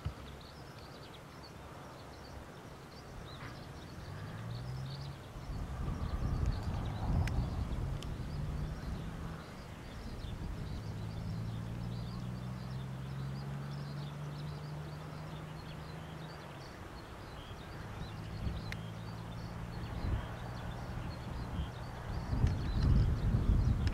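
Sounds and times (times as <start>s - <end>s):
wind rumbling on microphone: 3.0s - 23.9s.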